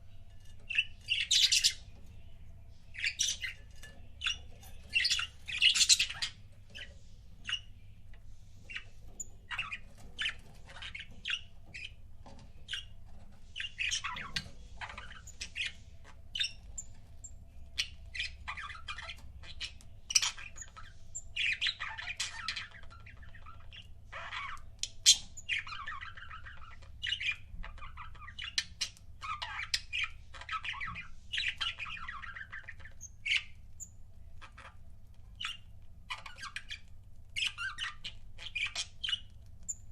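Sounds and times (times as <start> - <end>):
budgerigars chattering: 0.0 - 16.9, 17.8 - 34.8, 35.4 - 39.8.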